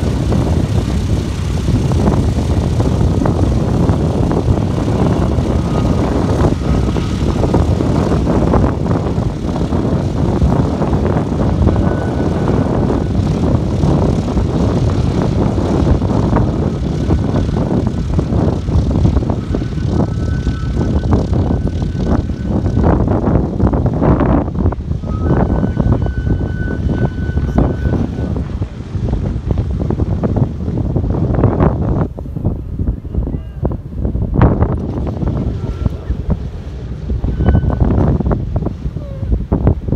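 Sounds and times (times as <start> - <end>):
piston aircraft engines running: 0.0 - 39.9.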